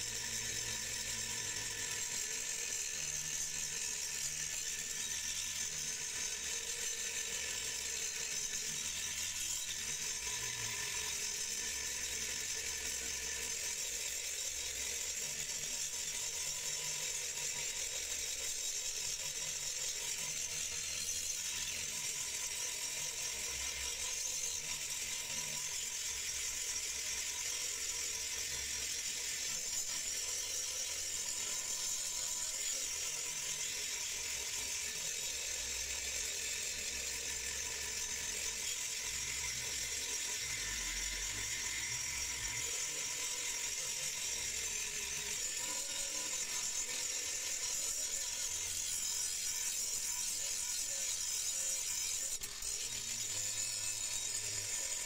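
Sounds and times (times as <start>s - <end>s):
angle grinder grinding steel: 0.0s - 55.0s.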